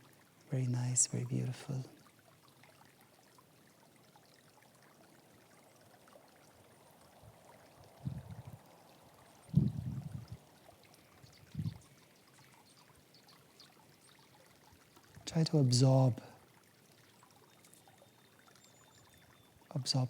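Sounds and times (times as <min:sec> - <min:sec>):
small stream flowing: 0:00.0 - 0:20.0.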